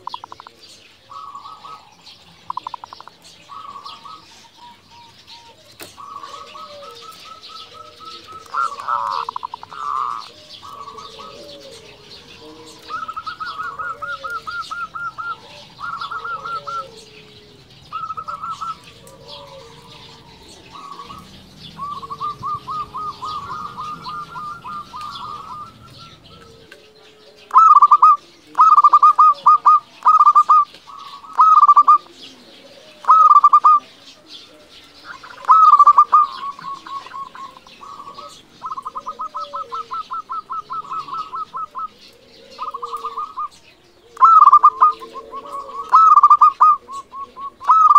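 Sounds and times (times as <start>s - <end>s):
dove cooing: 0.0s - 47.9s
small birds chirping: 0.0s - 47.9s.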